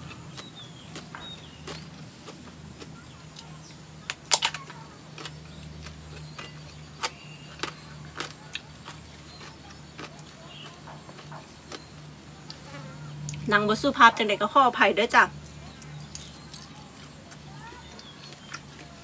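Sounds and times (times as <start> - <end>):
food crunching while chewed: 0.0 - 13.5, 15.7 - 19.0.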